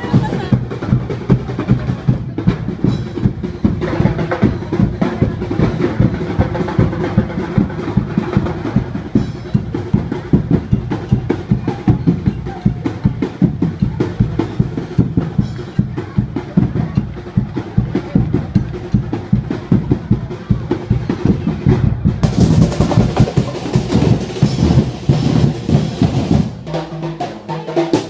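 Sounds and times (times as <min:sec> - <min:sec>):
fast percussion music: 0:00.0 - 0:28.0.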